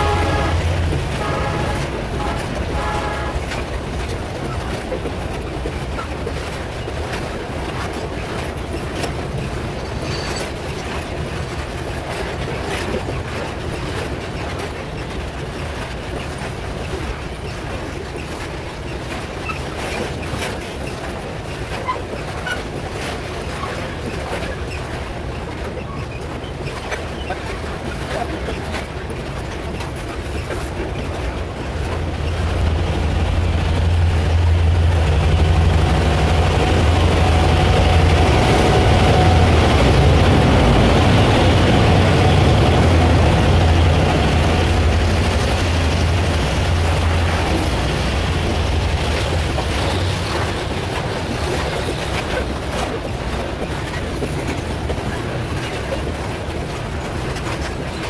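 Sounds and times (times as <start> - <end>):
diesel locomotive engine drone: 0.0 - 58.0
freight wagons rumbling on rails: 0.0 - 58.0.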